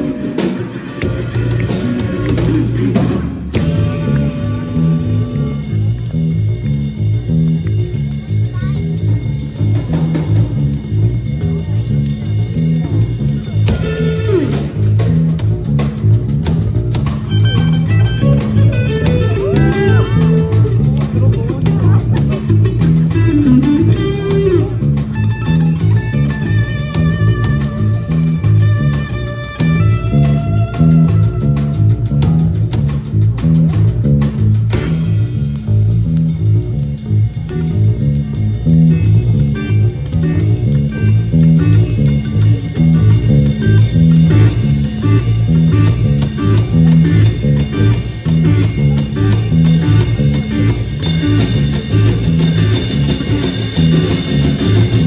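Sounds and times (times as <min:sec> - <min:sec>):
bass line: 0:00.0 - 0:55.0
lead electric guitar melody: 0:00.0 - 0:55.0
rock band playing: 0:00.0 - 0:55.0.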